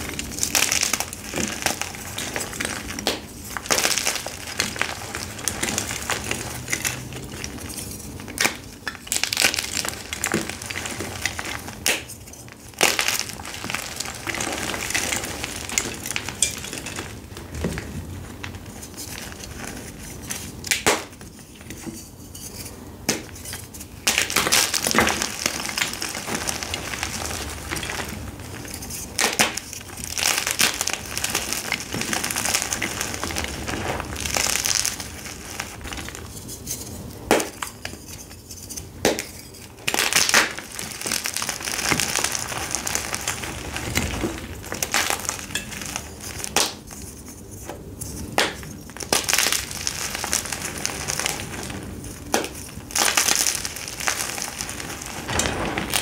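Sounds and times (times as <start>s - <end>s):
chalk crumbling in hands: 0.0s - 56.0s.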